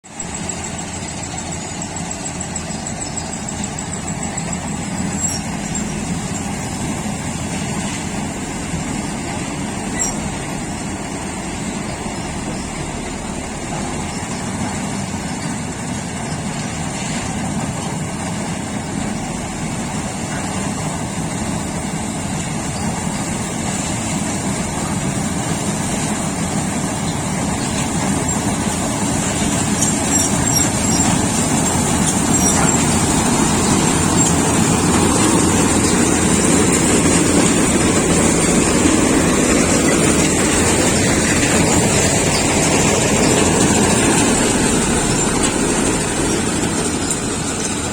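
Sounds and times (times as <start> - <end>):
tractor engine: 0.0 - 47.9
harvesting machinery running: 0.1 - 47.9.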